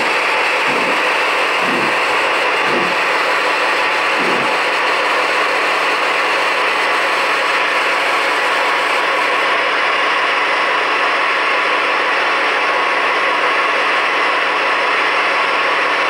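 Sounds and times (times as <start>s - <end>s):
model steam locomotive hissing: 0.0s - 16.0s.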